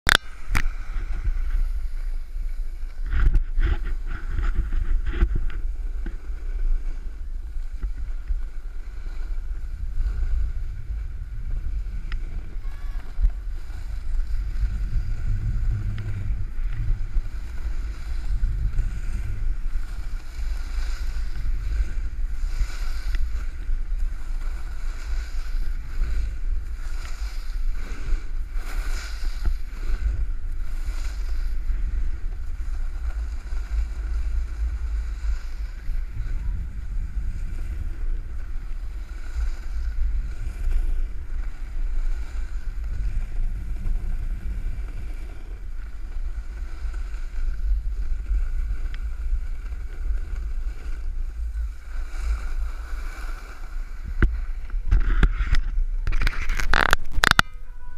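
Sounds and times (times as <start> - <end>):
wind buffeting microphone: 0.1 - 57.9.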